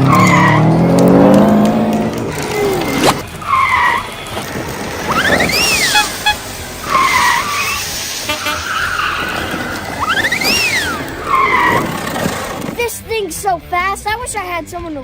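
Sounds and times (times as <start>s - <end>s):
high engine whine: 0.0s - 12.8s
tyre screech: 0.0s - 12.8s.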